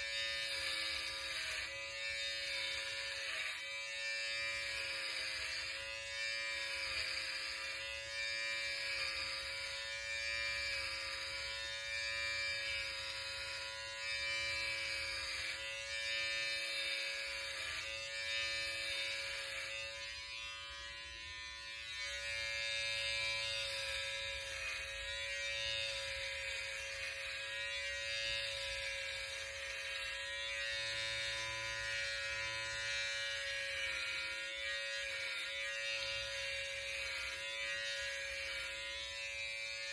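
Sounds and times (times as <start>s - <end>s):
electric hair trimmer buzzing: 0.0s - 39.9s.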